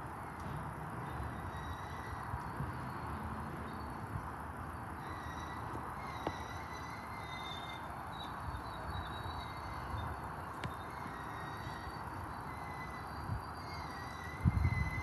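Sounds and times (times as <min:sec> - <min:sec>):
faint high wheel squeals: 0:01.0 - 0:15.0.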